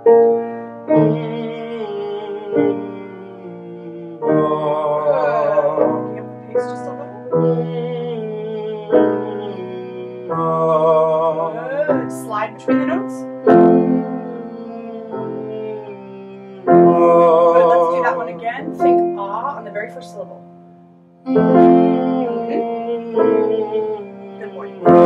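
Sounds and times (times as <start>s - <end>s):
piano chords: 0.0s - 25.0s
man singing vocal warm-up: 0.8s - 19.0s, 21.3s - 25.0s.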